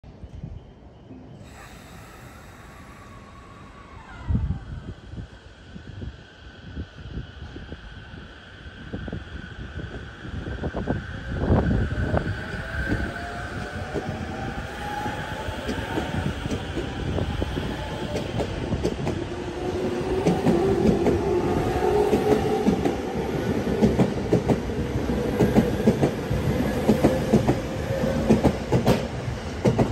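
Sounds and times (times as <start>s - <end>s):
train low rumble: 0.1s - 29.9s.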